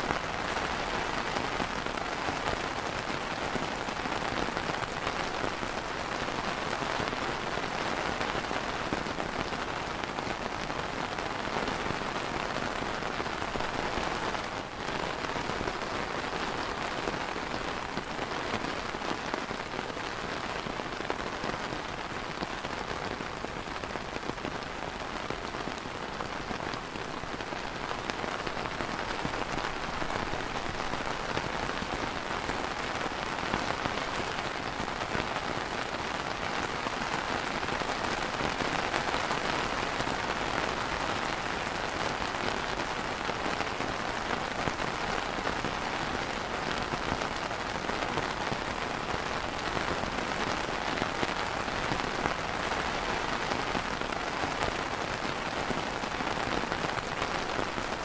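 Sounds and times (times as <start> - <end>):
rain on plastic umbrella: 0.0 - 58.0.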